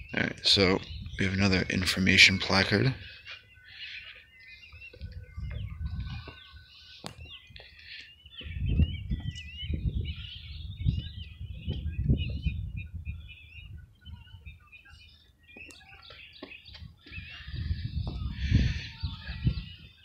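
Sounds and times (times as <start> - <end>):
small birds chirping: 0.0 - 20.0
wind buffeting microphone: 0.0 - 20.0.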